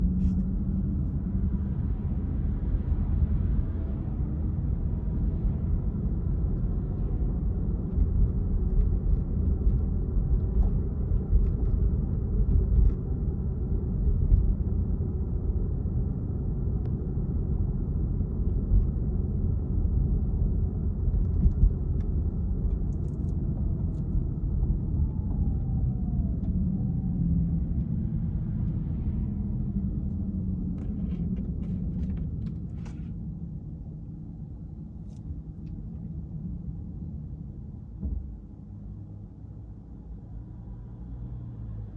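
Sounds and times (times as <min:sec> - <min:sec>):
car engine rumble: 0:00.0 - 0:41.9.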